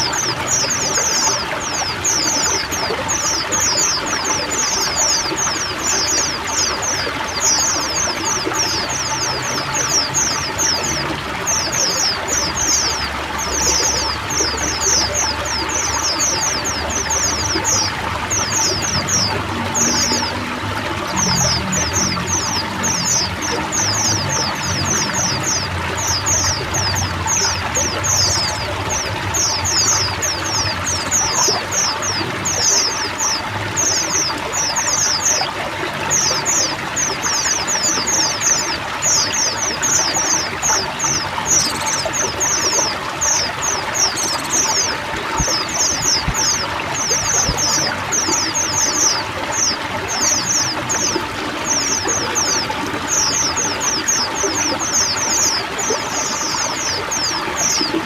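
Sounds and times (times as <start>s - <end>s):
flock of birds chirping: 0.0s - 58.0s
water trickling: 0.0s - 58.0s.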